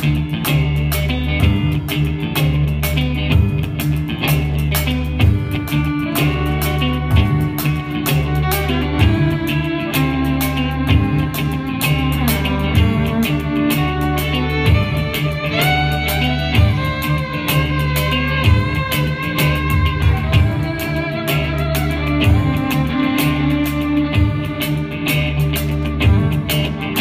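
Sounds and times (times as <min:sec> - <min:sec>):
drum kit steady beat: 0:00.0 - 0:27.0
electric bass: 0:00.0 - 0:27.0
electric guitar: 0:00.0 - 0:27.0
violin melody: 0:04.8 - 0:27.0.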